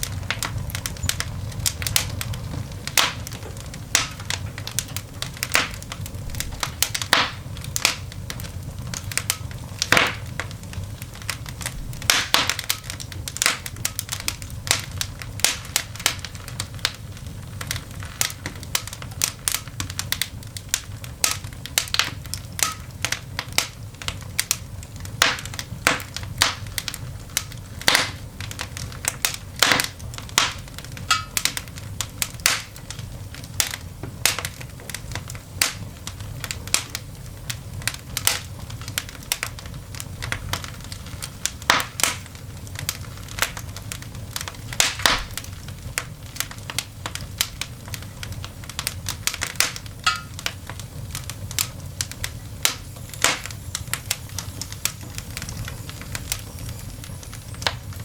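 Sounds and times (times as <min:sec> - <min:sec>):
coal fire crackling and popping: 0:00.0 - 0:58.0.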